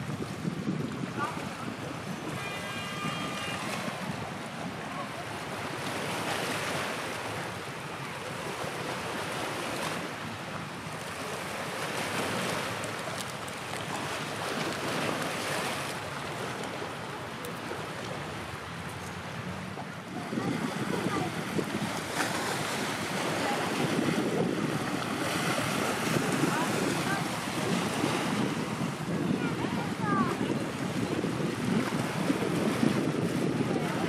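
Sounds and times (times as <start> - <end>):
sea waves washing on shore: 0.0 - 34.0
wind on microphone: 0.0 - 34.0.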